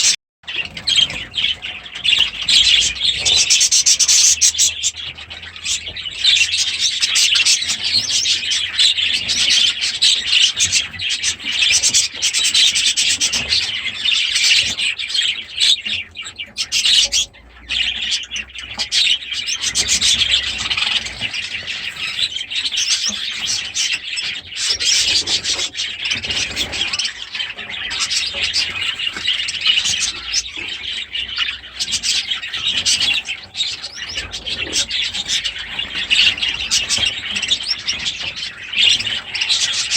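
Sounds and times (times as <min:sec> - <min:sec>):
cage birds chattering and chirping: 0:00.0 - 0:39.9.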